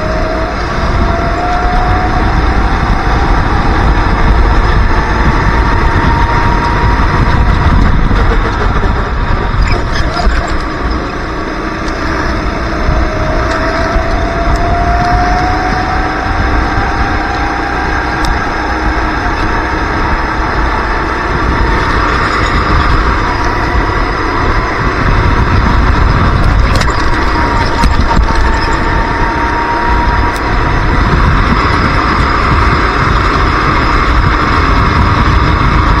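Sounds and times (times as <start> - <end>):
kart engine running hard: 0.0 - 36.0
wind rush on microphone: 0.0 - 36.0.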